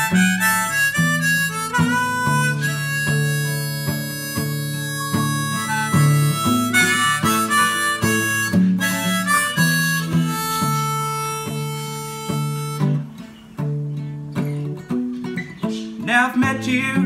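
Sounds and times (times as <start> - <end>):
harmonica melody: 0.0 - 16.9
strummed acoustic guitar: 0.0 - 17.0.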